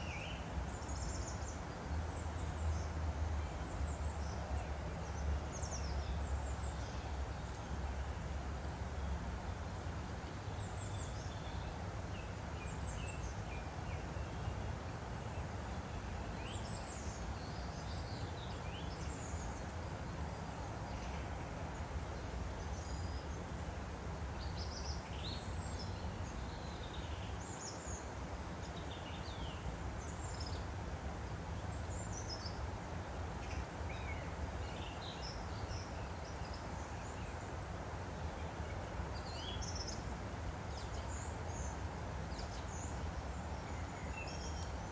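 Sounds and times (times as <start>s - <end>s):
stream flowing: 0.0s - 44.9s.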